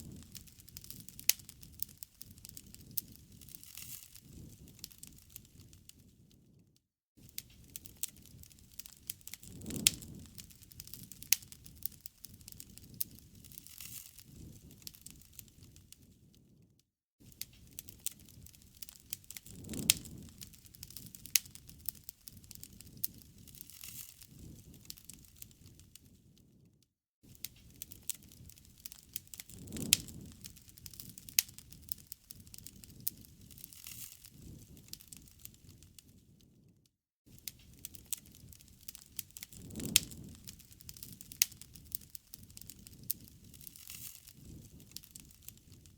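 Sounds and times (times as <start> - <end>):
wood fire crackling and popping: 0.0 - 36.7, 37.3 - 45.9.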